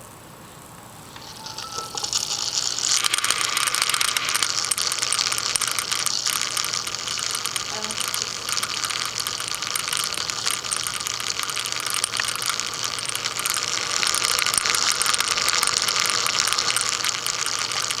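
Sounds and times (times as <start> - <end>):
laptop cooling fan rattling: 0.0 - 18.0.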